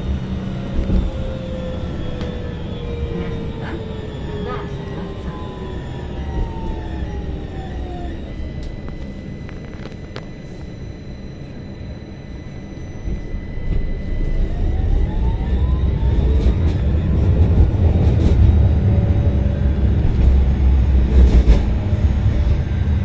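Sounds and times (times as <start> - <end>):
vehicle interior rumble: 0.0 - 11.8, 12.6 - 23.0
motor whine rising in pitch: 0.0 - 23.0.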